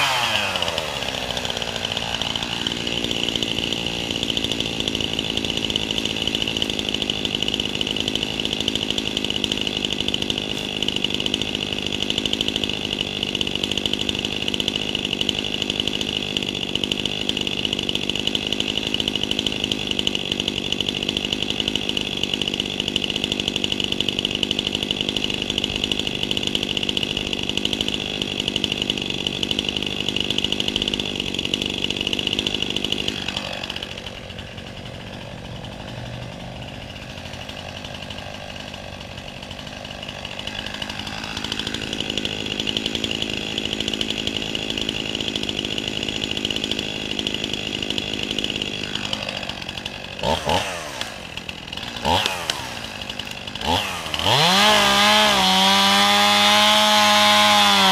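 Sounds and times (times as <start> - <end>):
chainsaw engine revving: 0.0 - 57.9.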